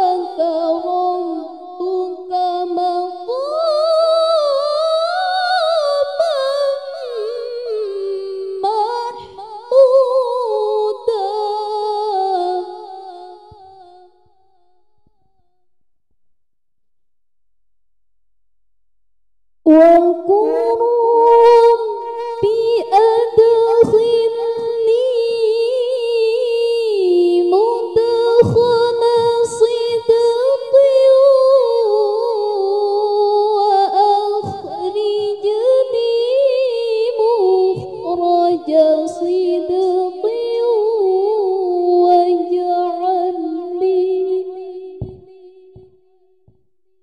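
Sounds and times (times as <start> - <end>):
woman reciting melodically: 0.0 - 13.6, 19.7 - 45.9.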